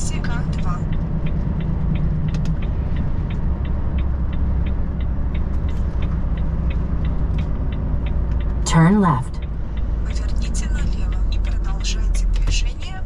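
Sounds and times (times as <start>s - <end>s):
diesel engine drone: 0.0s - 13.0s
turn signal ticking: 0.0s - 13.0s.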